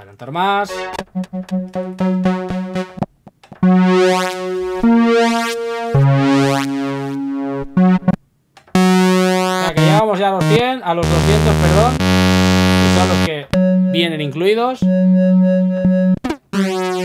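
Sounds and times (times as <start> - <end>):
synthesizer notes and chords: 0.6 - 17.0.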